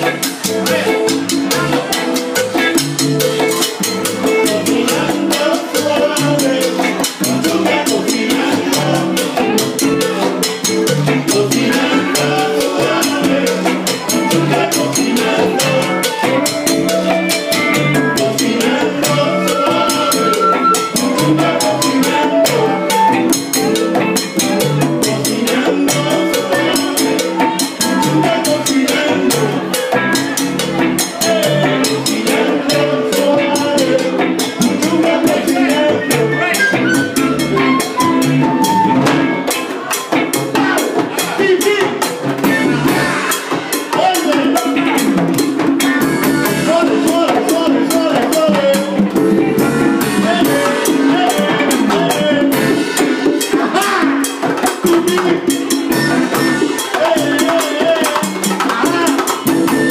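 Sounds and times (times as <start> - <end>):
drum kit and percussion beat: 0.0 - 59.9
live salsa band playing: 0.0 - 59.9.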